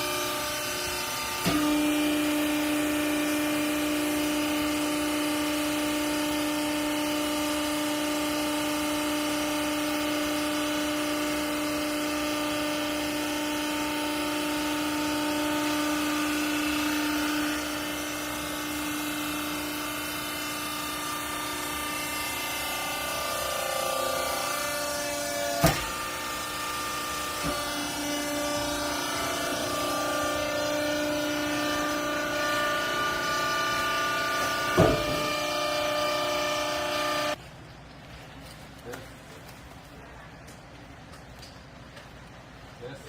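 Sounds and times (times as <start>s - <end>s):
baler hydraulic pump humming: 0.0s - 37.4s.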